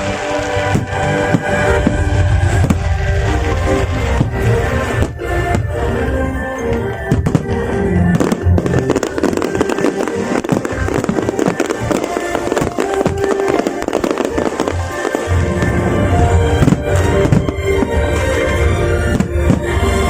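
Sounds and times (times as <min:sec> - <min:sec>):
background music: 0:00.0 - 0:20.0
fireworks bangs and crackles: 0:00.0 - 0:20.0.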